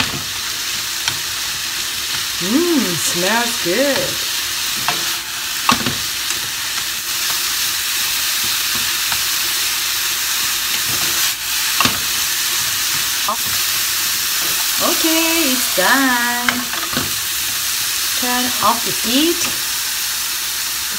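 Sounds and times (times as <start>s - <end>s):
food sizzling in a frying pan: 0.0s - 20.9s.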